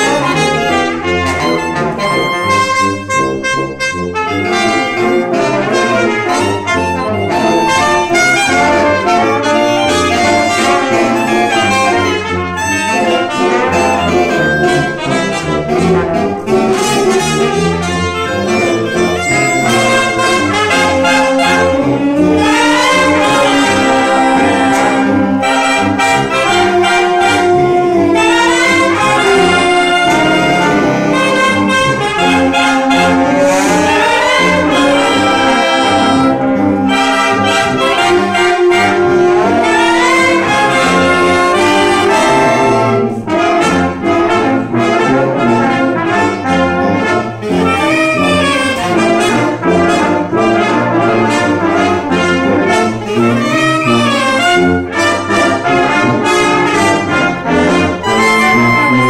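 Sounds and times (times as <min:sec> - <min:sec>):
wind band playing: 0:00.0 - 0:59.0.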